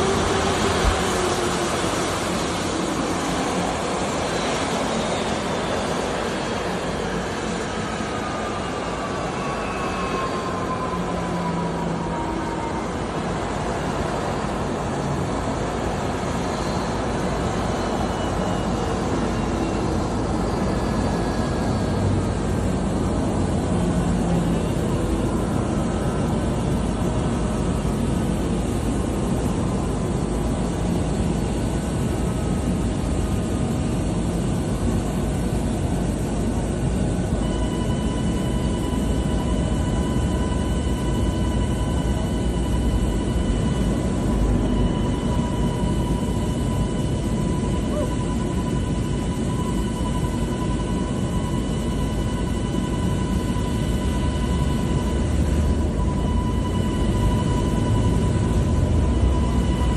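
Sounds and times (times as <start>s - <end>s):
jet engines idling: 0.0s - 59.9s.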